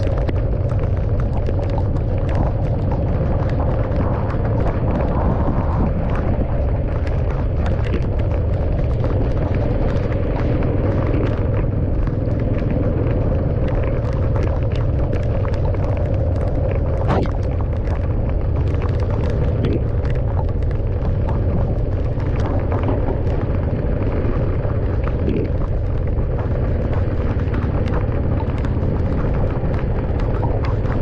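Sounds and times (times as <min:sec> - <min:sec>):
raindrops ticking on car: 0:00.0 - 0:31.0.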